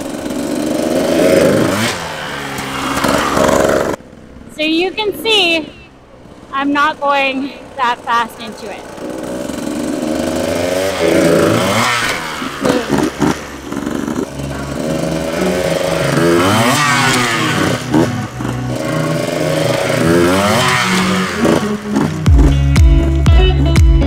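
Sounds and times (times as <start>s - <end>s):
dirt bike engine revving: 0.0s - 23.8s.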